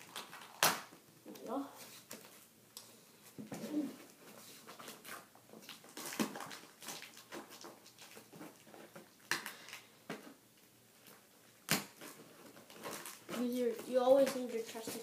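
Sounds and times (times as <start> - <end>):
tape crackling: 0.0 - 15.0.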